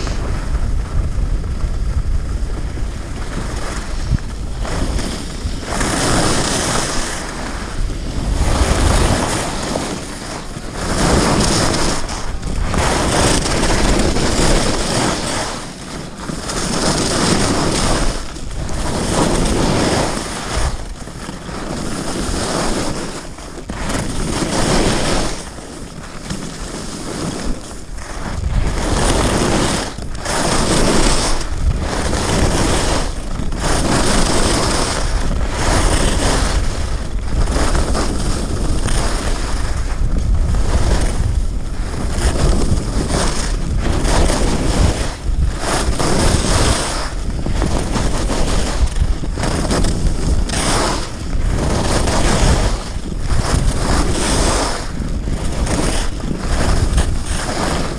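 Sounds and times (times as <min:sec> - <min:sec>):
skis scraping on snow: 0:00.0 - 0:57.9
wind on microphone: 0:00.0 - 0:57.9.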